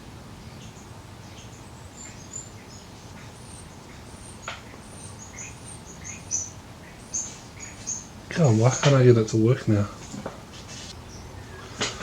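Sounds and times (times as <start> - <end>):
low steady hiss: 0.0 - 12.0
small birds chirping: 0.0 - 12.0.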